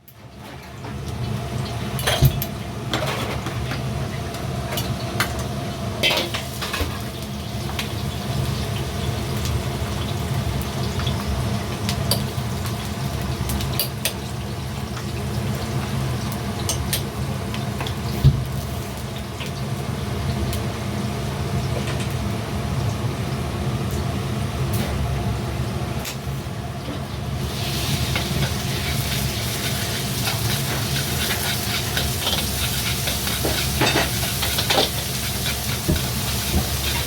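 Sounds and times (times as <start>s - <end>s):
frying sizzle: 0.0s - 37.0s.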